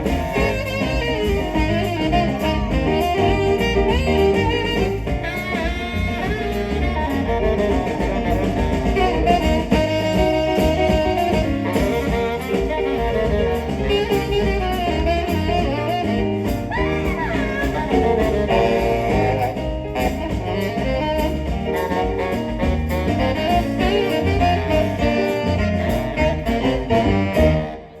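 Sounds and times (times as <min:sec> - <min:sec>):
jazz saxophone lead: 0:00.0 - 0:28.0
walking bass line: 0:00.0 - 0:28.0.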